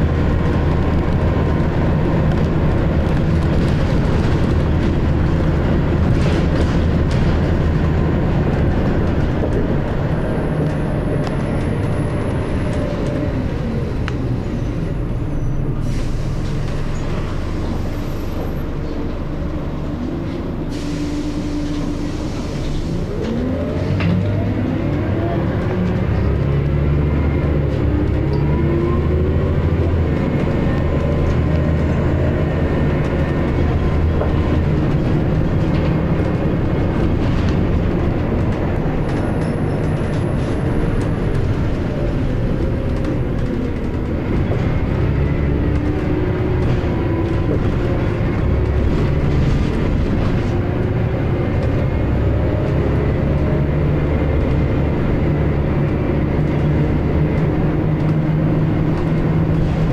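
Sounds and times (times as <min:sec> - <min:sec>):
bus diesel engine running: 0:00.0 - 0:59.9
road noise: 0:00.0 - 0:59.9.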